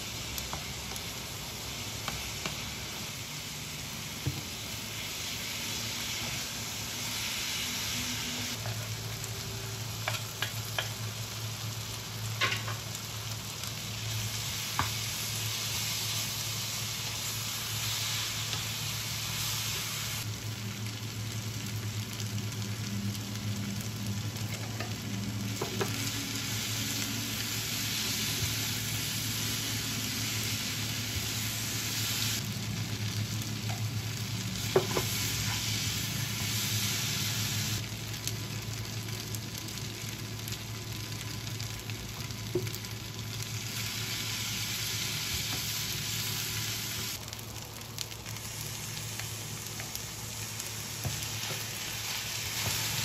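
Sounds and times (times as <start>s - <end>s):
food sizzling in a frying pan: 0.0s - 53.0s.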